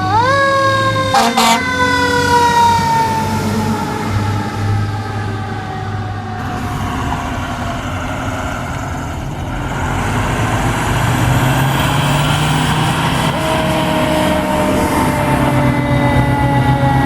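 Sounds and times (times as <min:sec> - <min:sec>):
fire truck diesel engine running: 0:00.0 - 0:17.0
siren sliding down: 0:00.0 - 0:17.0.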